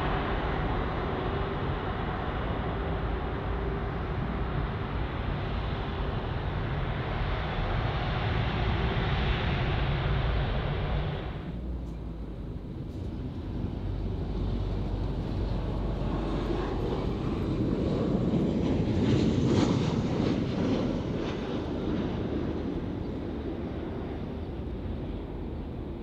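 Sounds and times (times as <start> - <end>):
jet airliner passing: 0.0 - 26.0.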